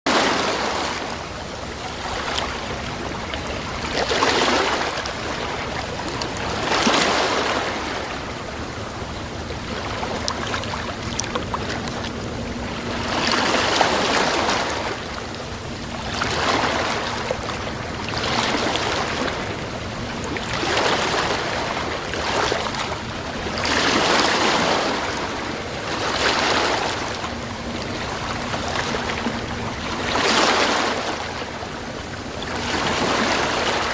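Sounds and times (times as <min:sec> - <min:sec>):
sea waves washing on shore: 0:00.1 - 0:33.9.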